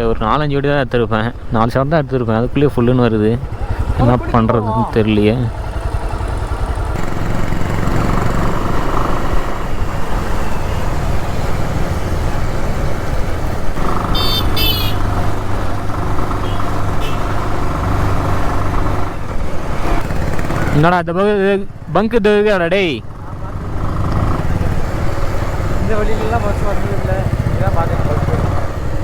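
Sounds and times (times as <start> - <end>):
motorcycle engine running: 2.5 - 29.0.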